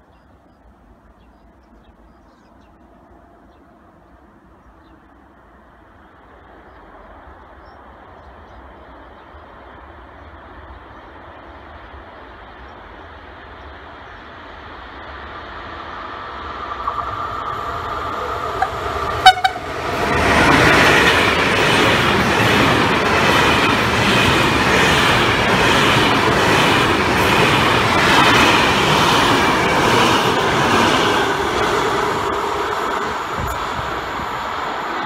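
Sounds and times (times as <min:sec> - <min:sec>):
train passing at speed: 0:00.0 - 0:35.0.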